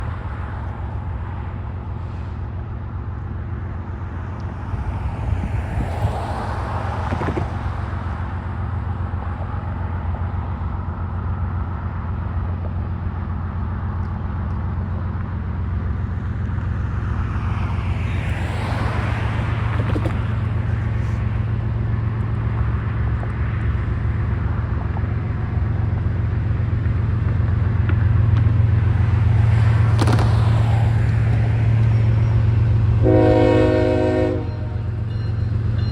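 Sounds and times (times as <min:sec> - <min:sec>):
diesel locomotives droning: 0:00.0 - 0:35.9
road vehicles passing: 0:00.0 - 0:35.9.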